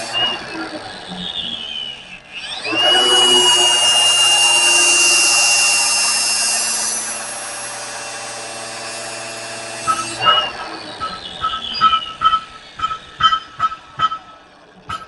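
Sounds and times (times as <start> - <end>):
electric grinder grinding steel: 0.0 - 14.8.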